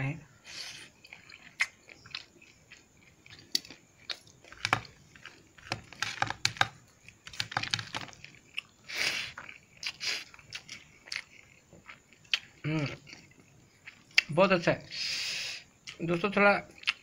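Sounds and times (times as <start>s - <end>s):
person chewing with wet smacks: 0.9s - 14.3s, 16.7s - 17.0s.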